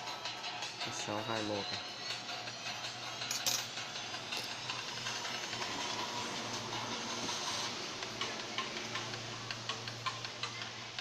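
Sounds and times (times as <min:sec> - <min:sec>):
steady hiss and low hum: 0:00.0 - 0:11.0.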